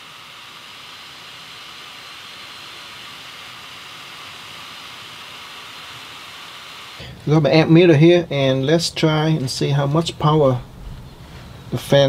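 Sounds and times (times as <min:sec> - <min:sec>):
blower fans running: 0:00.0 - 0:12.0
faint high whine: 0:00.0 - 0:12.0.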